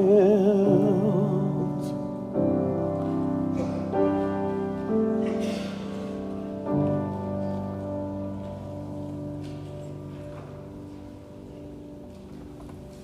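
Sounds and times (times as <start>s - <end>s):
piano slow sustained chords: 0.0s - 13.0s.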